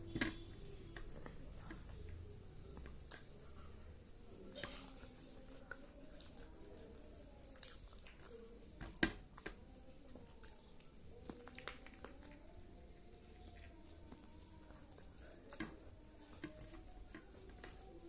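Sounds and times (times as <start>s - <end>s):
chewing and mouth sounds: 0.2s - 18.0s.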